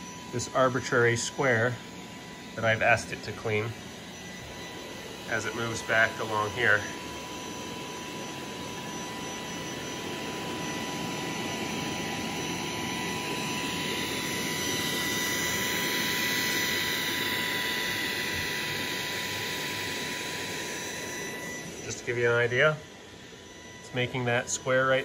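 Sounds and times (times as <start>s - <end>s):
robot vacuum fan whine: 0.0s - 25.0s.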